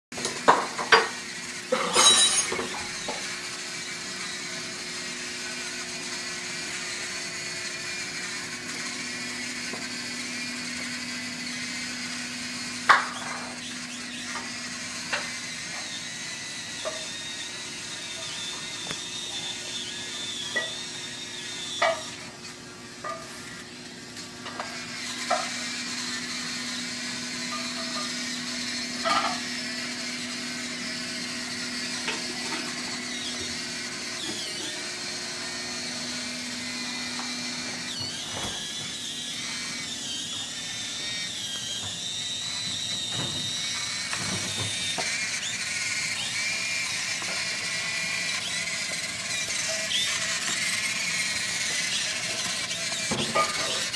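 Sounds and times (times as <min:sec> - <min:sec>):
small electric motors whirring: 0:00.2 - 0:53.9.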